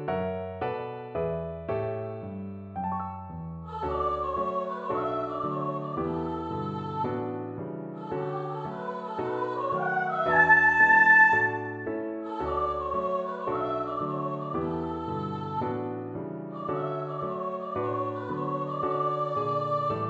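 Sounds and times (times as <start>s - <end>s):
piano chords: 0.0s - 20.0s
sampled voice singing wordless melody: 3.7s - 20.0s.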